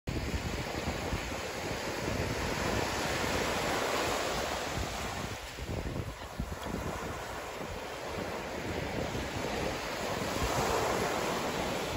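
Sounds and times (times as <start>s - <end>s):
small waves breaking on beach: 0.1s - 11.9s
wind buffeting microphone: 0.1s - 11.9s.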